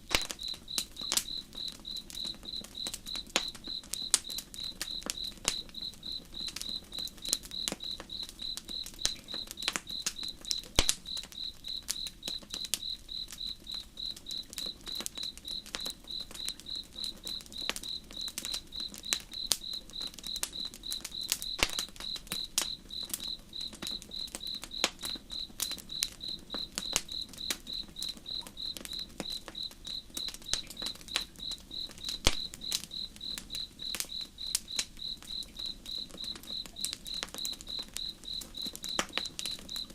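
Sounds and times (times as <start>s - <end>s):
campfire crackling and popping: 0.0s - 39.9s
cricket chirping: 0.1s - 39.9s.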